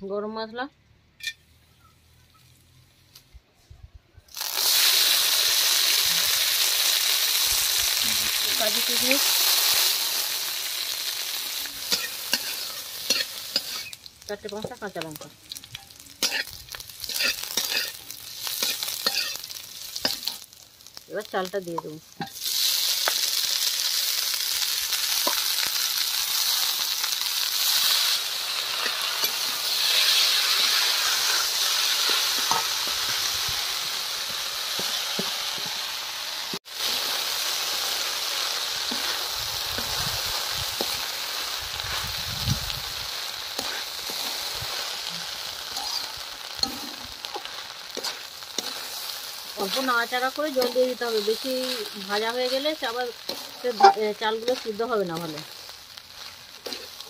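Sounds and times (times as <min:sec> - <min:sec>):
rice sizzling in hot fat: 0:04.2 - 0:57.0.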